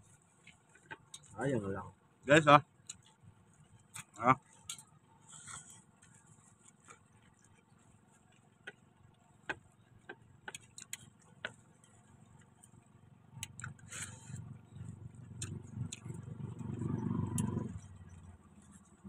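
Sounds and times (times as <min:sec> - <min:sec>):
faint irregular clicks: 0:00.0 - 0:01.4, 0:02.1 - 0:19.0.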